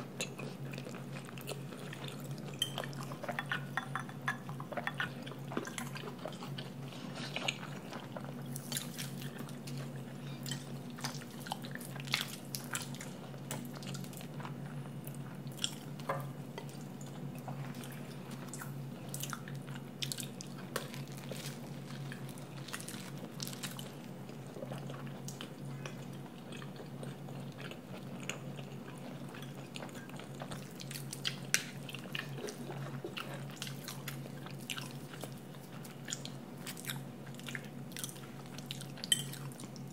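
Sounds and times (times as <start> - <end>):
low steady hum: 0.0 - 39.9
person chewing food: 0.0 - 39.9.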